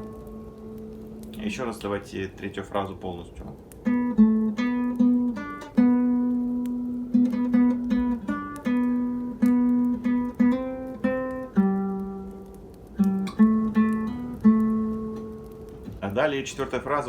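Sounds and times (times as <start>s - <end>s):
classical guitar plucked melody: 0.0s - 1.5s, 3.6s - 16.0s.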